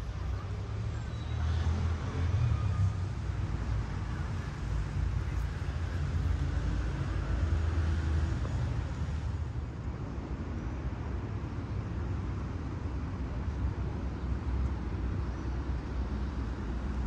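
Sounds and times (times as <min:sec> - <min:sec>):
rumble of passing cars: 0:00.0 - 0:17.0.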